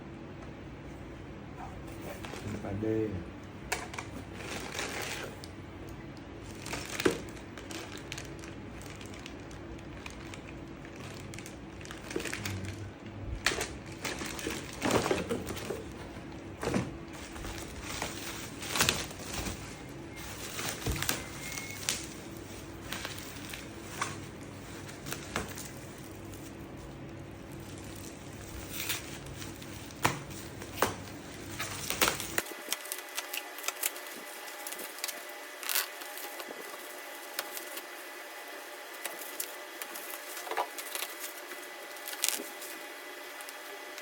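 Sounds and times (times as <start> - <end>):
faint steady hum: 0.0 - 44.0
packaging crinkling and rustling: 1.8 - 44.0.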